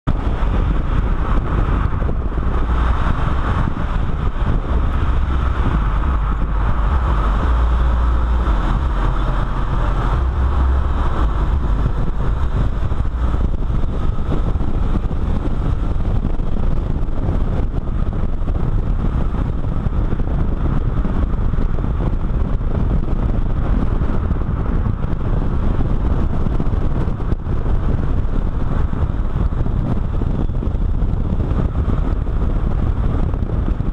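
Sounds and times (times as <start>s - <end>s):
car engine running: 0.0s - 33.9s
tyre and road noise: 0.0s - 33.9s
wind rumble on microphone: 0.0s - 33.9s.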